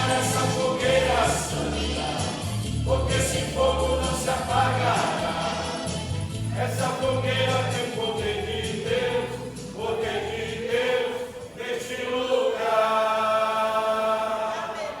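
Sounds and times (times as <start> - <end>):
group singing gospel song: 0.0 - 15.0.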